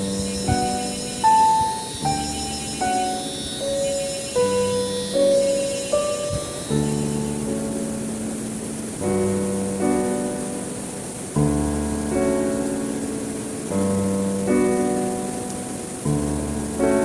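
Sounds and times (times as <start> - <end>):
slow piano chords: 0.0 - 17.0
steady hiss of falling water: 0.0 - 17.0.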